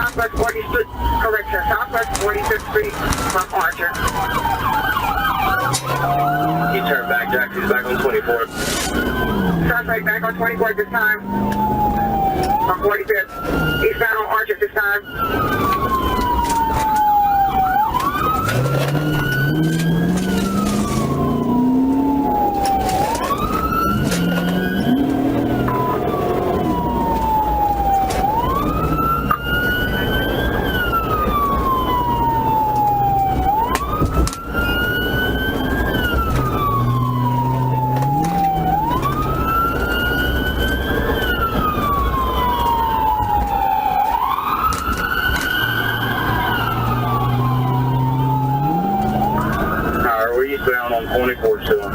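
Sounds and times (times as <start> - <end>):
car engine and road noise: 0.0 - 51.9
police siren wailing: 0.0 - 51.9.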